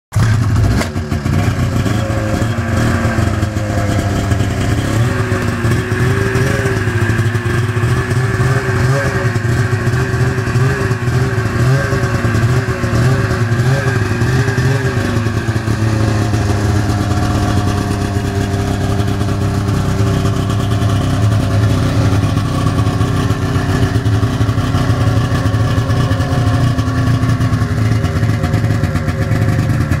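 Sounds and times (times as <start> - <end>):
snowmobile engine running: 0.2 - 30.0.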